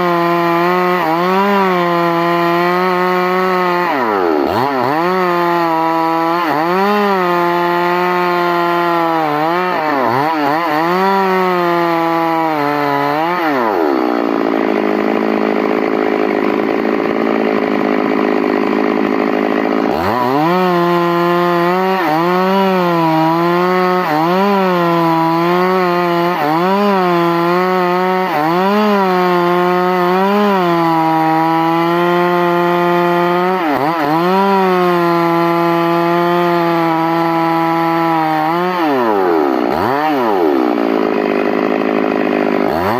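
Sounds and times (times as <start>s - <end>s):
chainsaw running hard: 0.0s - 42.9s.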